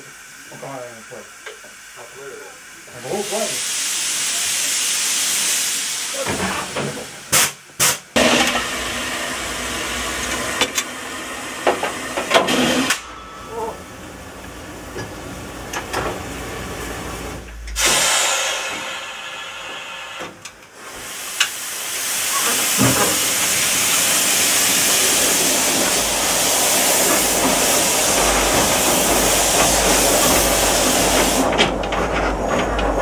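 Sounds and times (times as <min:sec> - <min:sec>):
steam locomotive hissing: 0:00.0 - 0:33.0.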